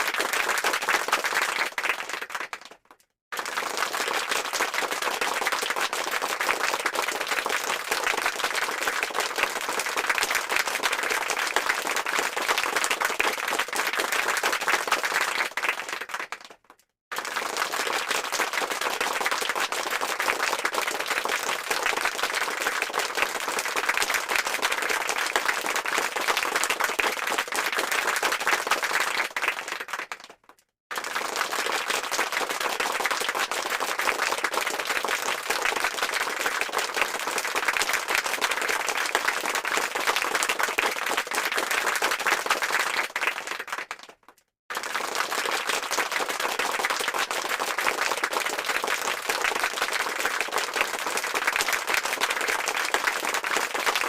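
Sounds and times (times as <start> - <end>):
crowd applause: 0.0 - 54.0.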